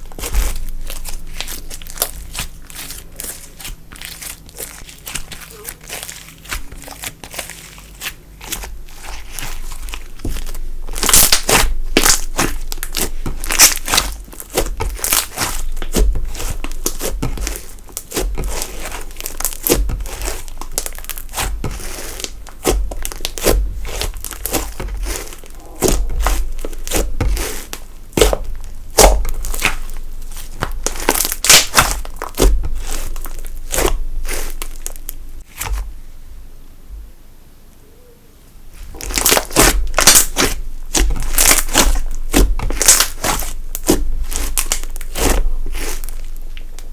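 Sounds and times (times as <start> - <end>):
slime crackling and popping: 0.0 - 35.8, 38.8 - 46.9.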